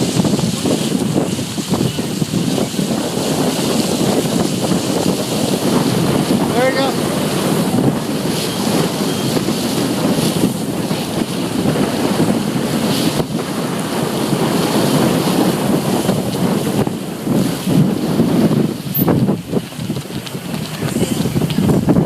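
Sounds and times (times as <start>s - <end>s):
water washing: 0.0s - 22.0s
wind buffeting microphone: 0.0s - 22.0s.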